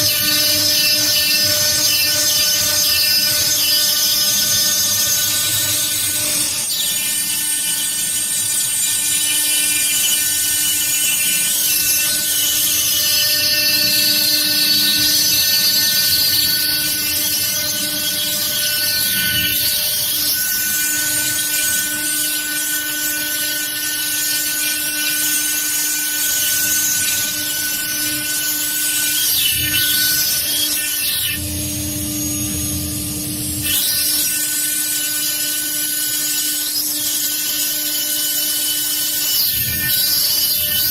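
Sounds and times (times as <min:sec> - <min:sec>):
engraving machine spindle whine: 0:00.0 - 0:40.9.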